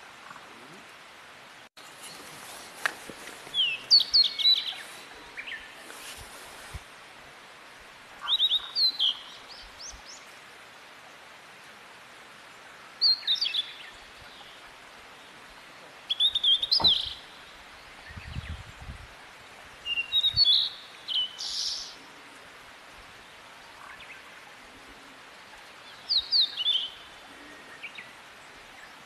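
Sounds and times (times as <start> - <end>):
background hiss: 0.0 - 29.0
songbird chirping: 1.8 - 6.8, 8.1 - 19.0, 19.6 - 29.0.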